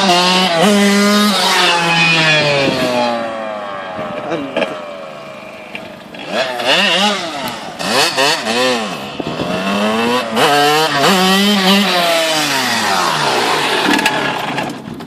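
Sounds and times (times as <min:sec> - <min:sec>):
two-stroke motorcycle engine revving: 0:00.0 - 0:14.9.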